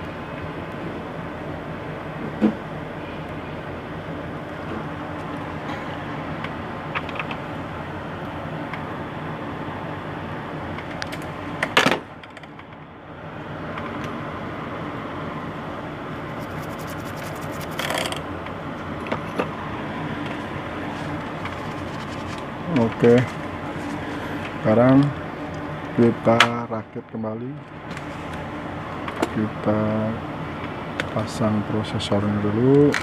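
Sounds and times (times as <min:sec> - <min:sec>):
background hum and hiss: 0:00.0 - 0:33.0.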